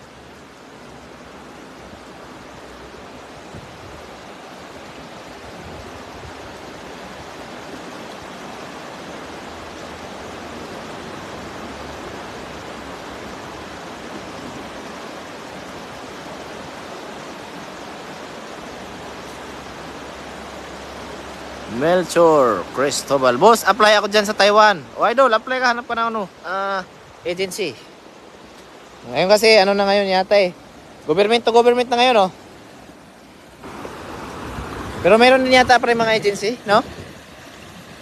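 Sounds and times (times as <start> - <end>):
water rushing: 0.0 - 38.0.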